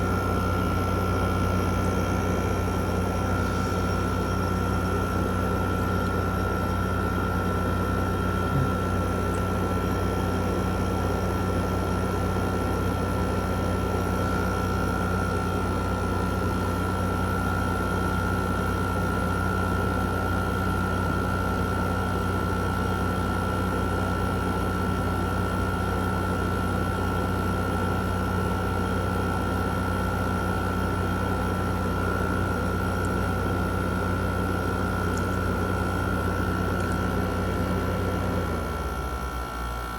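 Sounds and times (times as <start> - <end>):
window air conditioner humming: 0.0 - 39.9.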